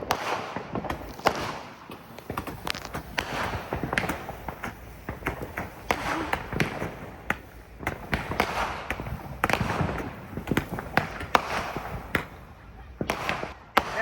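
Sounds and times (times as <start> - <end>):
fireworks crackling: 0.0 - 14.0
fireworks popping and banging: 0.0 - 14.0.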